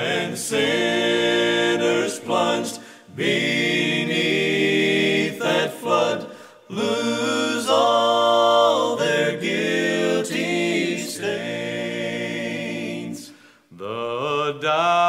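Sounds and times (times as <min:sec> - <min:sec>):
vocal quartet singing in harmony: 0:00.0 - 0:15.0.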